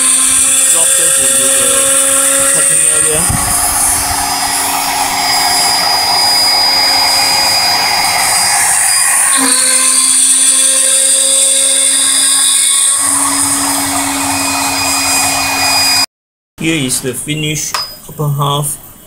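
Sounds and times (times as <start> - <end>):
metal cutting noise: 0.0 - 16.1
router spindle high-pitched whine: 0.0 - 16.1.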